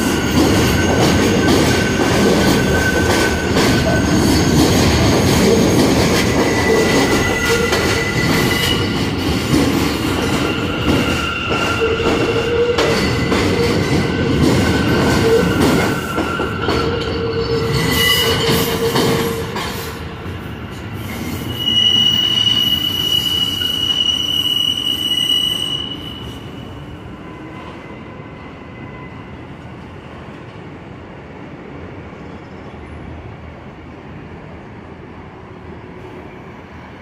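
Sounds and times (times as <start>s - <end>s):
train wheels squealing on rails: 0.0s - 30.7s, 31.9s - 33.4s
train rumbling: 0.0s - 37.0s.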